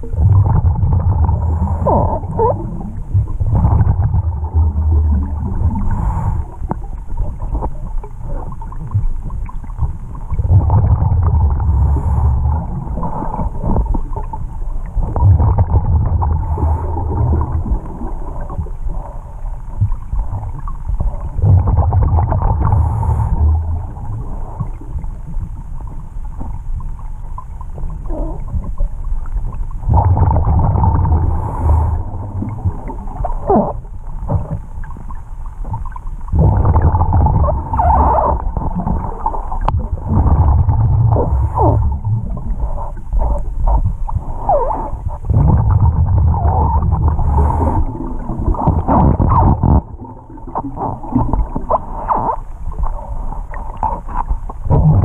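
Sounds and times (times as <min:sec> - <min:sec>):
underwater exhaled bubbles: 0:00.0 - 0:55.0.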